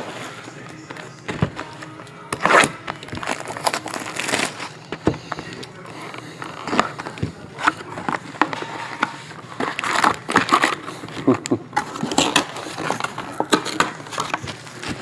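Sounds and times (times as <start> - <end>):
wrapping crinkling: 1.6 - 15.0.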